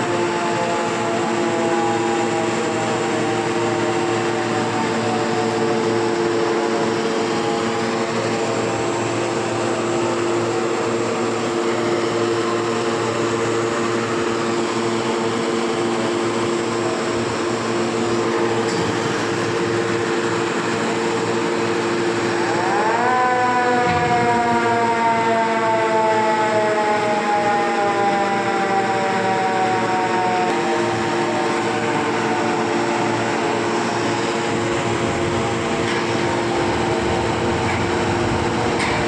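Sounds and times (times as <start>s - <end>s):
heavy machinery droning: 0.0s - 39.0s
warning siren: 0.0s - 39.0s.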